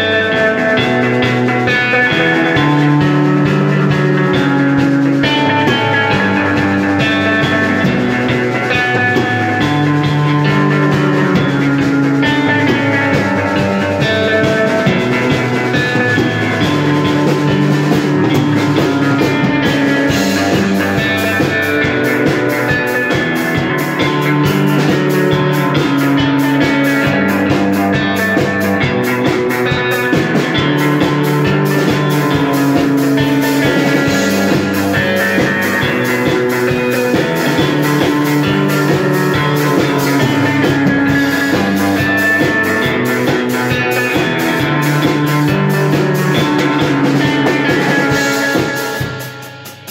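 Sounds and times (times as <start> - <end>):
electric guitar through amp: 0.0 - 49.9.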